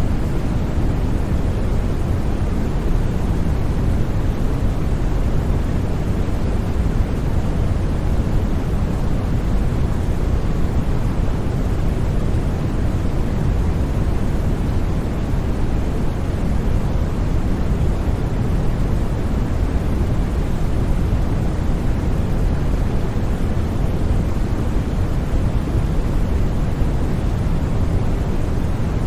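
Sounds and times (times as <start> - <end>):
steady white noise hiss: 0.0 - 29.0.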